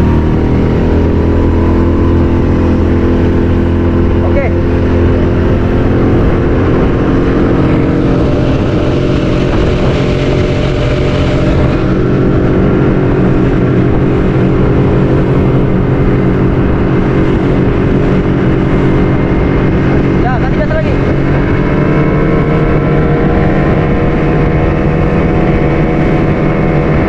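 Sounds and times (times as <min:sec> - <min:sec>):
boat motor running: 0:00.0 - 0:27.0.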